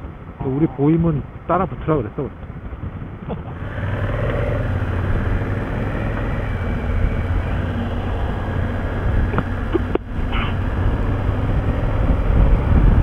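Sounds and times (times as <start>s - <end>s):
motorcycle engine drone: 0.0s - 13.0s
wind rush: 0.0s - 13.0s.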